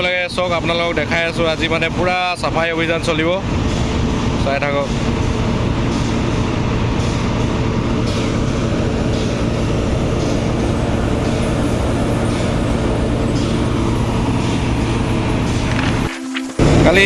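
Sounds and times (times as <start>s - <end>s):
drilling rig machinery drone: 0.0s - 17.0s.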